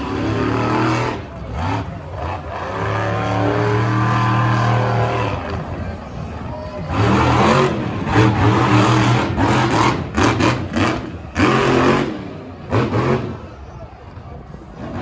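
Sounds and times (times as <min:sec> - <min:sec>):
monster truck engine revving: 0:00.0 - 0:13.8, 0:14.5 - 0:15.0.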